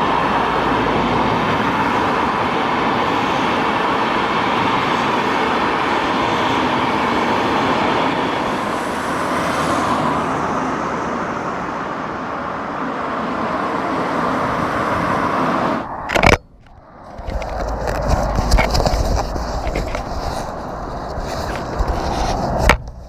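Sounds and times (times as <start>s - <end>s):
train passing rumble: 0.0s - 23.0s.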